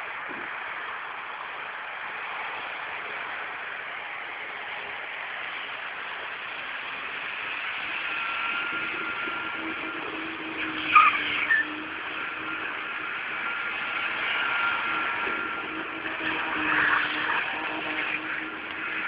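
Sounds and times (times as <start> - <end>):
car drifting through snow hiss: 0.0 - 19.0.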